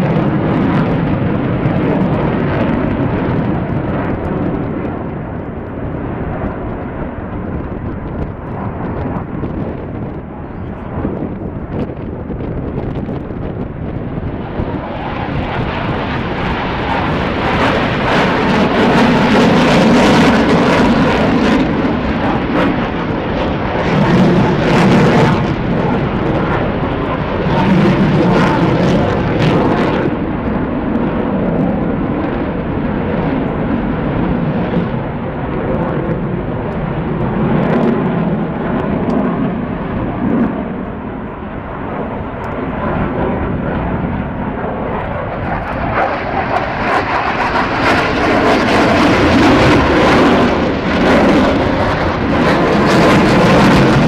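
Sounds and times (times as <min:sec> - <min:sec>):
fighter jet engine rumbling: 0:00.0 - 0:54.0.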